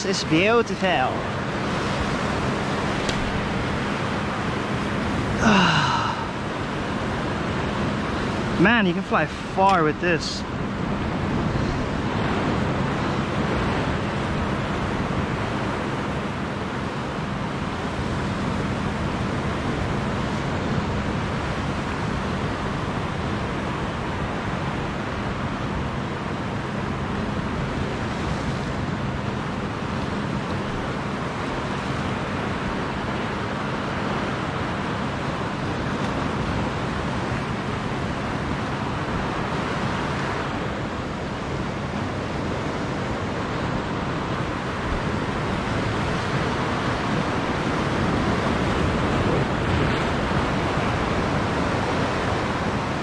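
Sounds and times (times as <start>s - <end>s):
ocean surf on rocky shore: 0.0s - 53.0s.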